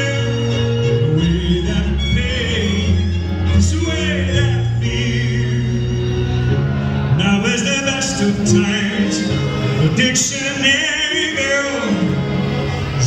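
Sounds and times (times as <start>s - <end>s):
man singing with vibrato: 0.0s - 13.0s
string accompaniment: 0.0s - 13.0s.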